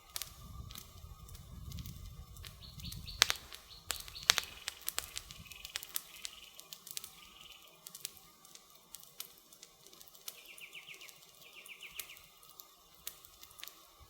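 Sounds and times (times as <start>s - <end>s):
birds chirping: 0.0s - 14.0s
low fire rumble: 0.0s - 14.0s
wood fire crackling: 0.0s - 14.0s.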